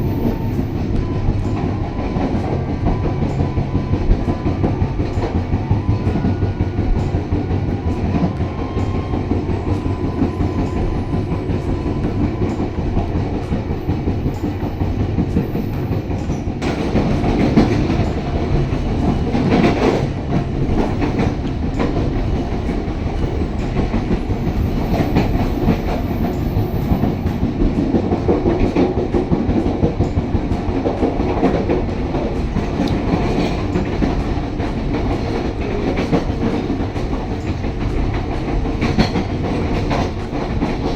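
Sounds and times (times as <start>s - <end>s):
train running on track: 0.0s - 40.9s
wheels clicking over rail joints: 0.0s - 40.9s.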